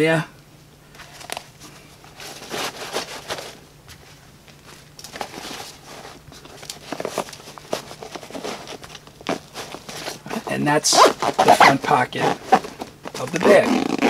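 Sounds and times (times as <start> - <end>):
nylon fabric rustling: 1.0 - 14.0.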